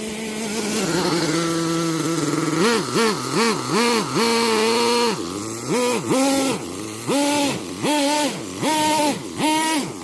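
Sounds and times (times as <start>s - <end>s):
small two-stroke engine revving: 0.0s - 10.0s.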